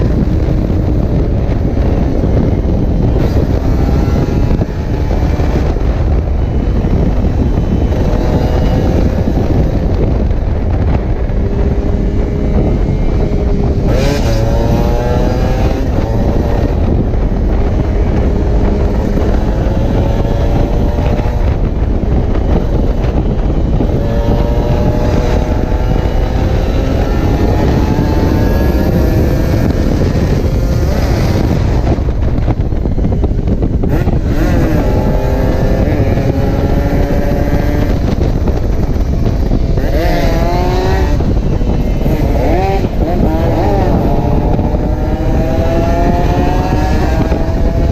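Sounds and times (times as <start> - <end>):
motorcycle engine accelerating: 0.0 - 47.9
wind rumble on microphone: 0.0 - 47.9.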